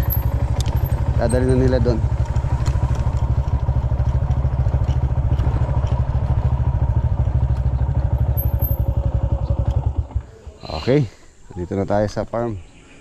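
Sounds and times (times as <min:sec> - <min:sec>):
motorcycle engine at low revs: 0:00.0 - 0:10.5.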